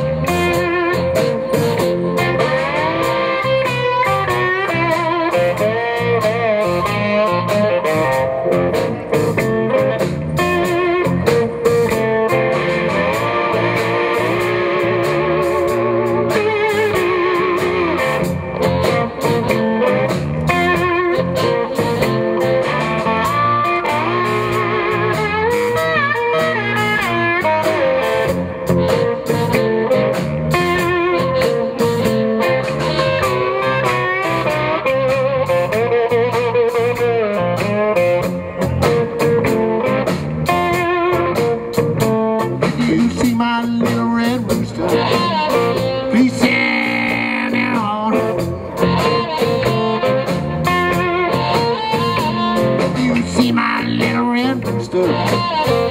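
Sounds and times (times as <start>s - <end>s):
bass guitar: 0.0s - 55.9s
blues band playing: 0.0s - 55.9s
drums: 0.0s - 55.9s
electric guitar lead with sliding notes: 0.0s - 55.9s.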